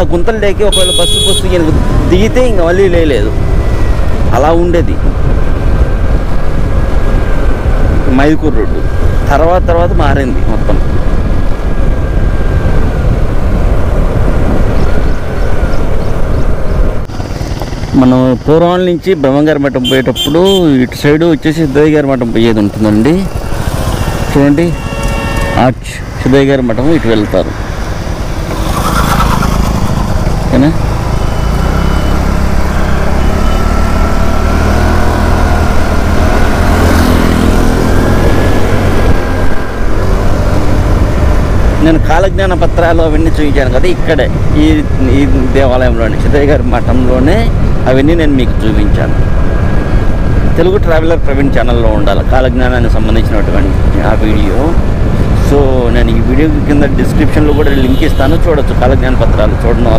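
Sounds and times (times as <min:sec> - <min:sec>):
motorcycle engine rumble: 0:00.0 - 0:59.9
road noise: 0:00.0 - 0:59.9
wind rushing over microphone: 0:01.4 - 0:19.3, 0:20.8 - 0:59.9.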